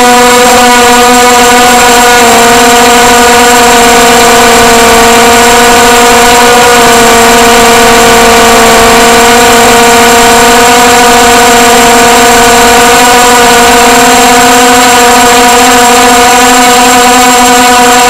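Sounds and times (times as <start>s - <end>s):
drone propellers buzzing: 0.0s - 18.0s.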